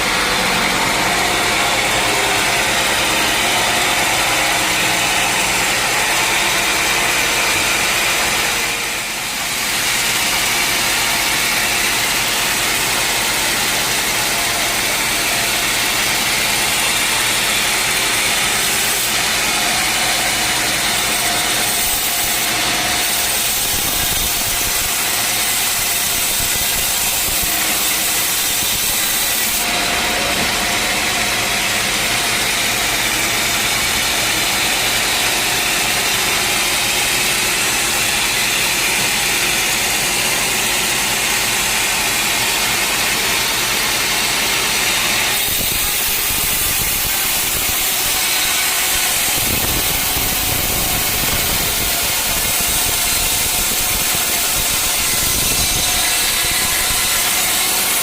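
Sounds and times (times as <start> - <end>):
saw hissing through log: 0.0 - 58.0
sawmill engine hum: 0.0 - 58.0.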